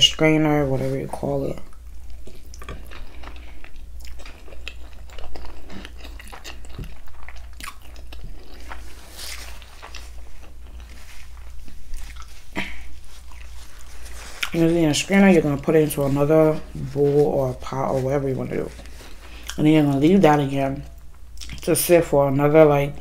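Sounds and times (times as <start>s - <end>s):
person chewing: 1.5s - 21.7s.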